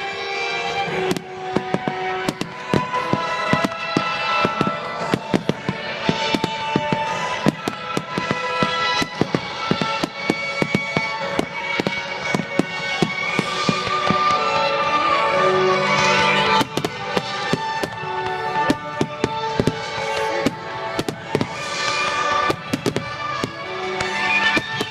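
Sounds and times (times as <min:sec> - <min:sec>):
fireworks bursting: 0:00.0 - 0:24.9
music with held notes: 0:00.0 - 0:24.9.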